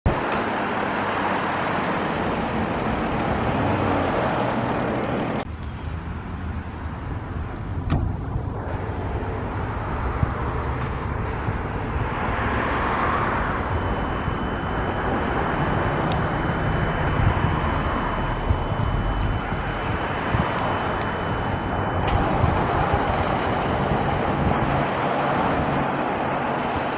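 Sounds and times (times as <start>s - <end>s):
road noise: 0.0s - 26.9s
fire truck engine running: 0.1s - 26.9s.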